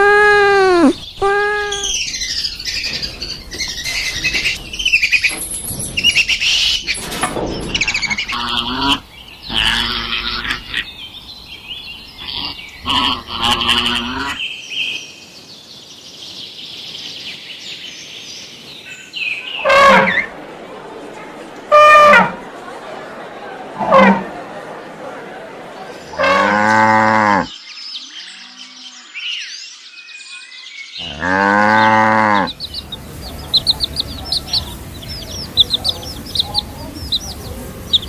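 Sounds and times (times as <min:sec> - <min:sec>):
birds chirping and twittering: 0:00.1 - 0:20.5, 0:25.8 - 0:38.0.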